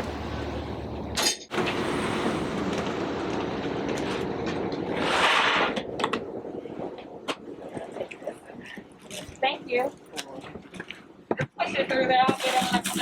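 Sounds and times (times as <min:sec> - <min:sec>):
vehicle rumble: 0:00.0 - 0:10.6.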